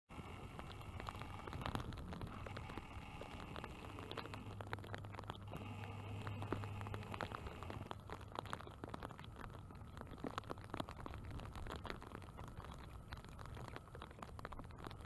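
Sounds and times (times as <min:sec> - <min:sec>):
rain pattering on hard surface: 0:00.1 - 0:15.0
steady low hum: 0:00.1 - 0:15.0.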